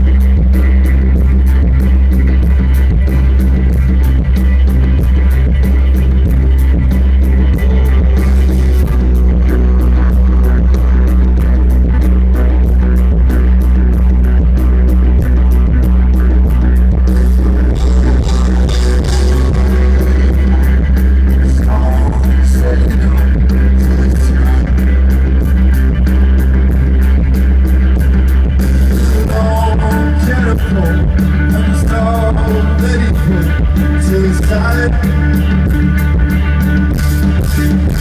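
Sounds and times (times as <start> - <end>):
drums: 0.0 - 38.0
electric guitars: 0.0 - 38.0
heavy low bass: 0.0 - 38.0
keyboards: 0.0 - 38.0.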